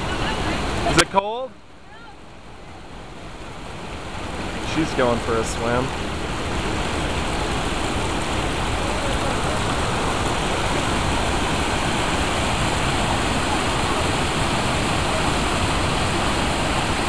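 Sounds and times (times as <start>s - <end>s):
creek water over rocks: 0.0s - 17.0s
waterfall rushing: 0.0s - 17.0s.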